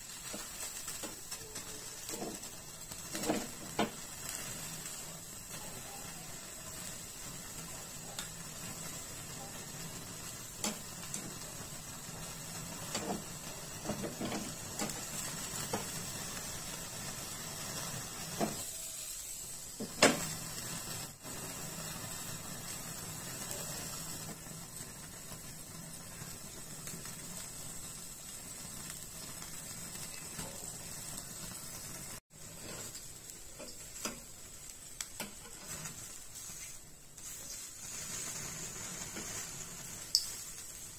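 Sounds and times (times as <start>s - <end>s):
gas burner hissing: 0.0s - 40.9s.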